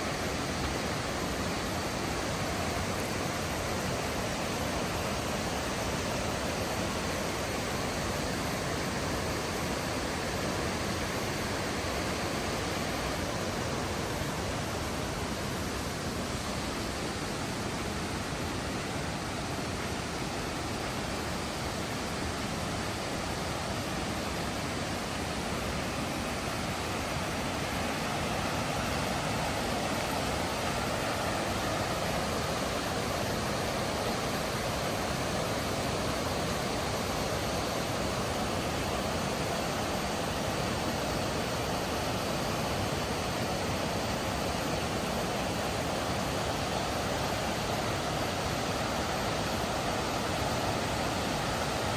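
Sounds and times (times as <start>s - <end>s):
river rushing over rocks: 0.0s - 51.9s.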